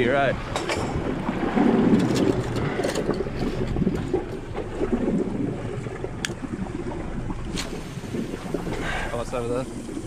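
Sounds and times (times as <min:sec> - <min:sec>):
wind buffeting microphone: 0:00.0 - 0:09.8
water washing against hull: 0:00.0 - 0:10.0.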